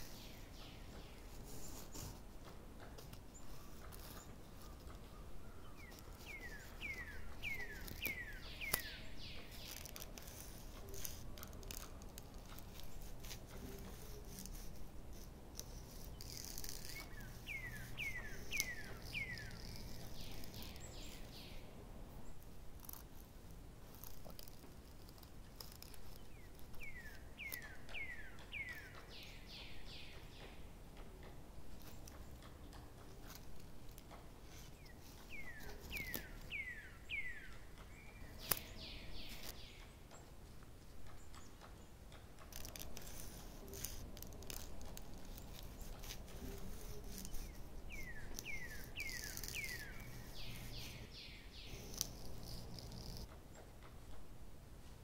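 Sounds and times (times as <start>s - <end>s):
faint outdoor background hiss: 0.0s - 55.0s
songbird singing: 0.0s - 55.0s.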